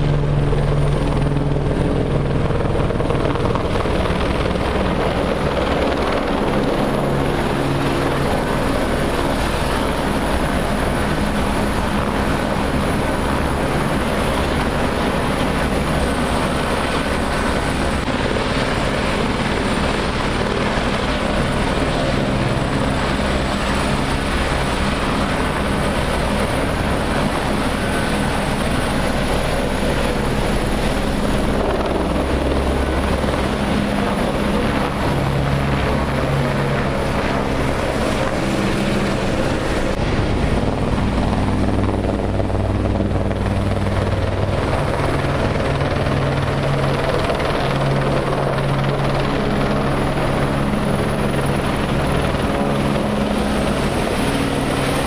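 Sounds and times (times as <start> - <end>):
helicopter rotor beat: 0.0 - 55.0
helicopter turbine whine: 0.0 - 55.0.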